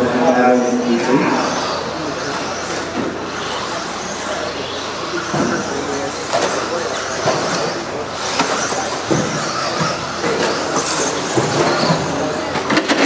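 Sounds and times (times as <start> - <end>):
radio-controlled truck motors: 0.0 - 13.0.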